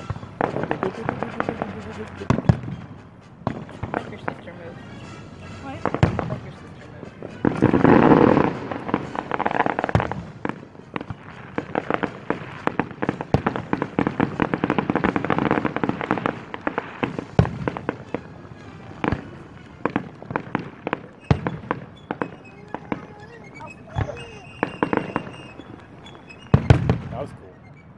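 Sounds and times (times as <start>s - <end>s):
distant fireworks pops and bangs: 0.0s - 27.9s.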